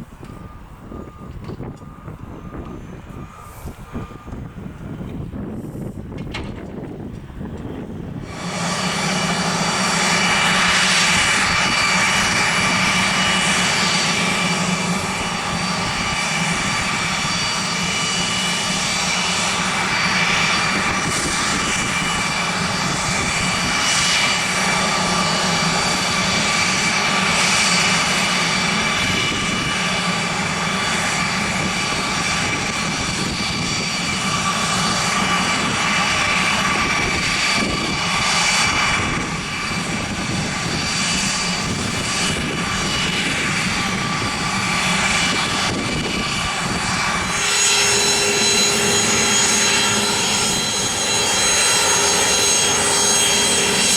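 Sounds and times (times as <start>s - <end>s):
jet engines whining: 0.0s - 53.9s.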